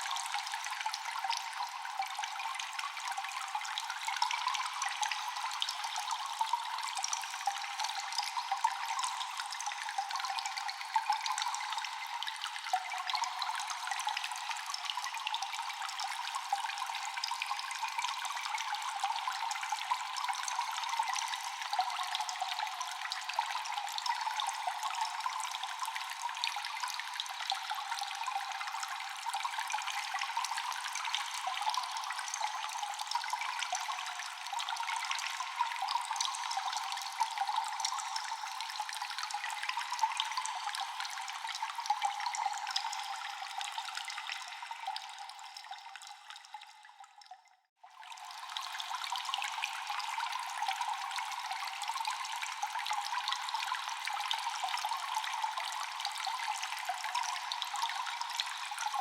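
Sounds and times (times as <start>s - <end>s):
echoing water drips: 0.0s - 59.0s
trickle of running water: 0.0s - 59.0s.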